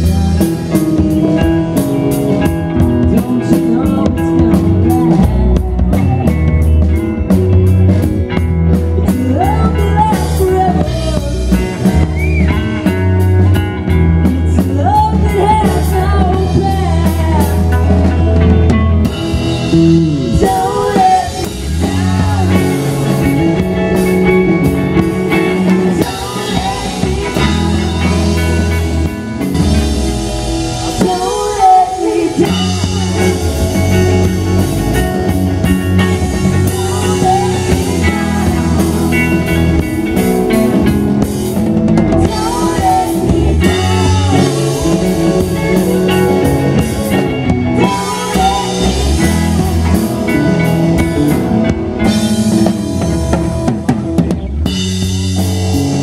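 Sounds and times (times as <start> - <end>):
sung vocals: 0.0 - 8.0, 8.8 - 54.3
rock band playing: 0.0 - 56.0.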